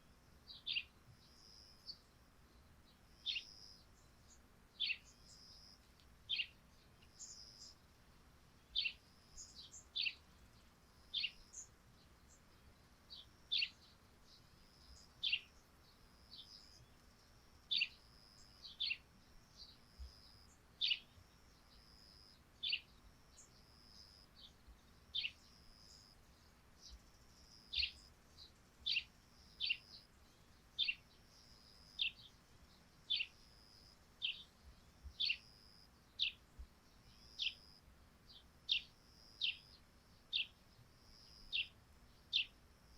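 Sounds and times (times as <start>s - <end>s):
sparrows chirping: 0.5s - 7.9s, 8.6s - 42.9s.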